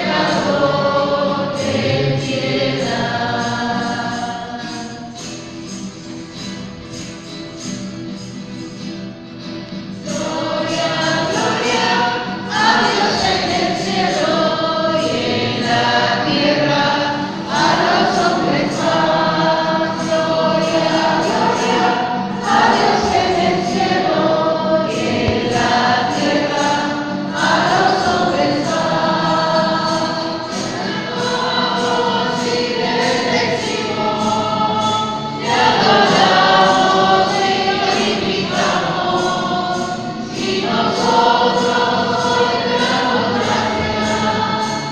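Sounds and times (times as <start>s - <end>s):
choir singing a slow hymn: 0.0s - 7.4s, 9.7s - 44.9s.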